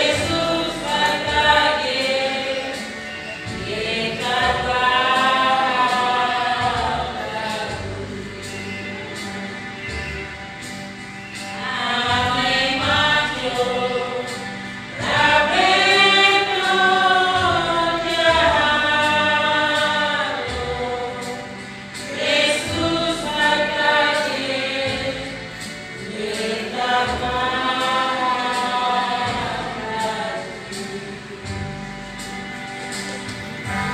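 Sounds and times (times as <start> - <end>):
women's choir singing a hymn: 0.0 - 33.9.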